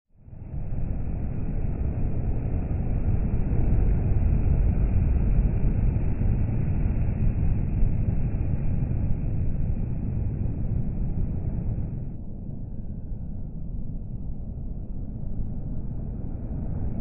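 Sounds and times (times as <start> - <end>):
lorry passing with low rumble: 0.1 - 17.0.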